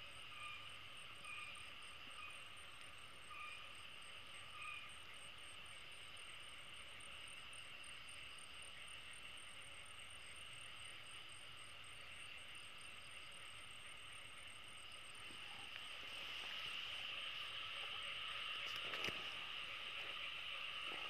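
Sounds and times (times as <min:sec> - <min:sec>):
crickets trilling: 0:00.0 - 0:21.0
insects droning: 0:00.0 - 0:21.0.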